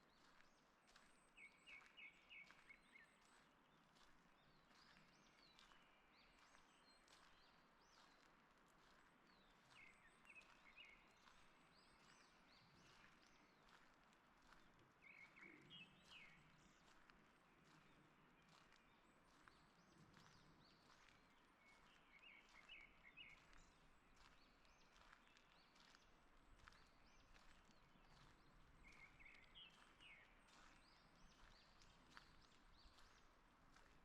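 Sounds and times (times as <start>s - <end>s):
footsteps on forest path: 0.1s - 8.2s, 8.8s - 34.0s.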